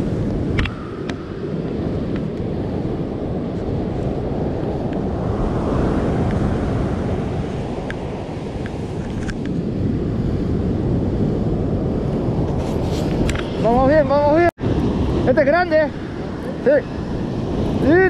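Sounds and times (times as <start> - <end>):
surf washing: 0.0 - 18.0
wind buffeting microphone: 0.0 - 18.0.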